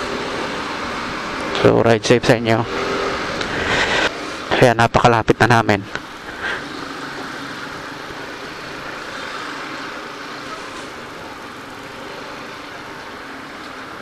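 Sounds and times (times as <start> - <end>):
motorcycle engine: 0.0 - 4.7, 5.6 - 14.0
road noise: 0.0 - 14.0.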